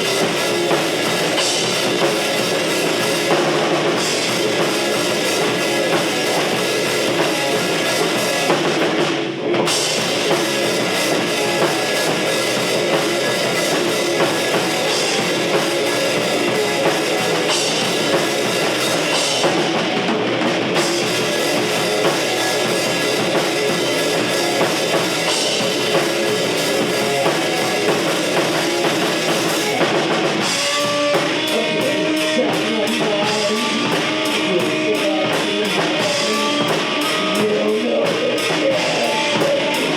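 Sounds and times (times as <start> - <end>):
drum kit: 0.0 - 39.9
picked guitar notes: 0.0 - 39.9
rock band playing: 0.0 - 39.9.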